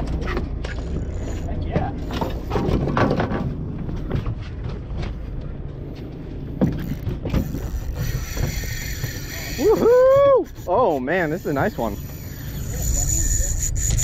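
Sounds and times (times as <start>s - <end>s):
gear clattering on boat deck: 0.0s - 14.0s.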